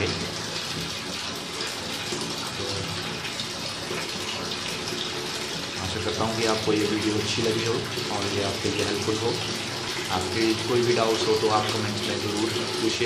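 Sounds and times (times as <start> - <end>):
water pouring from drain: 0.0 - 13.0.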